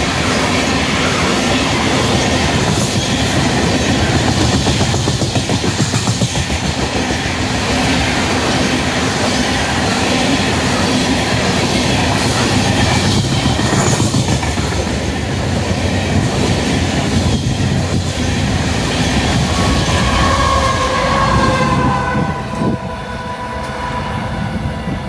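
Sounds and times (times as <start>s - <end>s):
steel wheels on rails: 0.0s - 25.0s.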